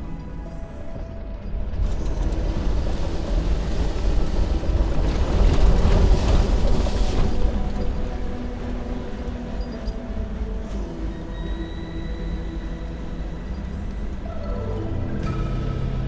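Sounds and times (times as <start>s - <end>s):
engine and tyre rumble: 0.0s - 16.0s
wind noise: 0.0s - 16.0s.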